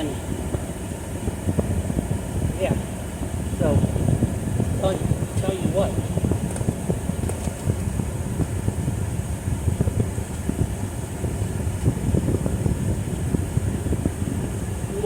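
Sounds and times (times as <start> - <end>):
car rumble from inside cabin: 1.2 - 15.0.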